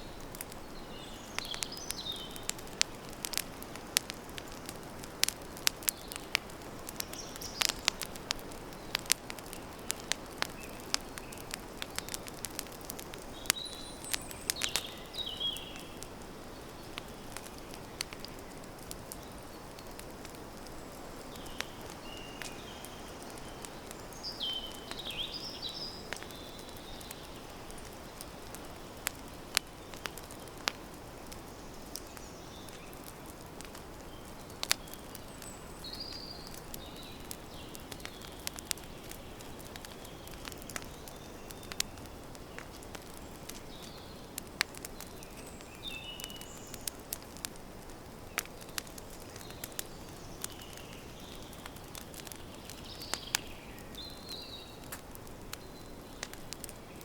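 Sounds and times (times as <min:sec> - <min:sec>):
birds chirping: 0:00.0 - 0:04.7, 0:05.3 - 0:47.4, 0:48.2 - 0:54.9
campfire crackling and popping: 0:00.0 - 0:57.0.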